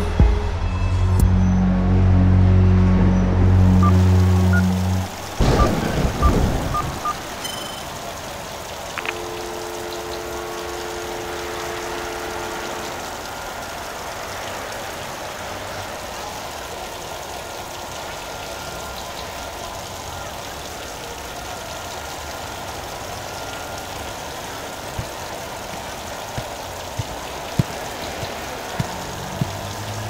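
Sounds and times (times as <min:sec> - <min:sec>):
city traffic hum: 0:00.0 - 0:30.0.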